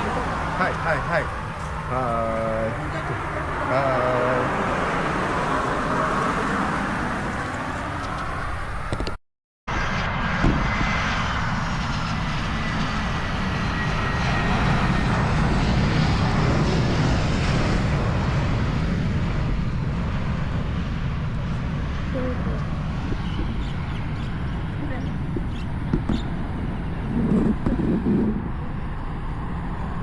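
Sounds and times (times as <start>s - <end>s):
faint high engine whine: 0.0s - 9.0s, 9.7s - 30.0s
airliner engines rumbling: 0.0s - 30.0s.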